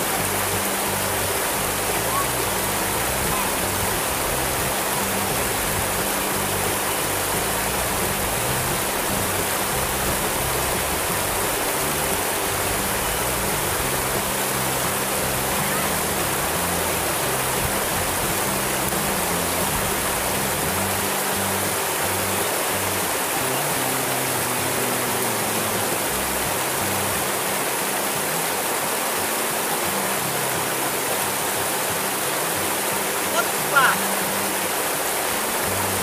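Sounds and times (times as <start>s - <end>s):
water rushing over rocks: 0.0s - 36.0s.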